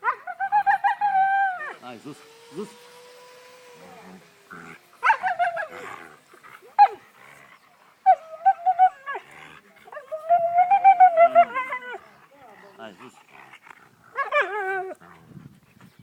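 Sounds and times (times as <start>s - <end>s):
dogs whining and yowling: 0.0s - 12.9s, 13.5s - 16.0s.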